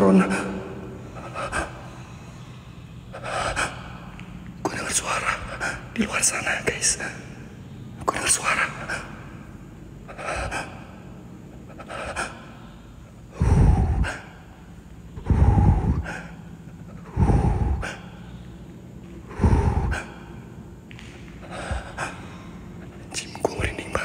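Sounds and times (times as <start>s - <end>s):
person breathing heavily: 0.0s - 5.9s, 8.8s - 24.0s.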